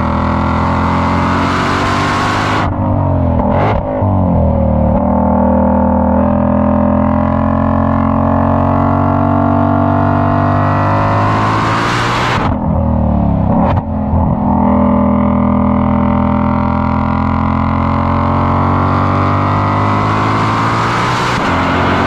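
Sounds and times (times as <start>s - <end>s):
car engine revving hard: 0.0s - 4.3s, 4.9s - 12.6s, 13.4s - 22.0s.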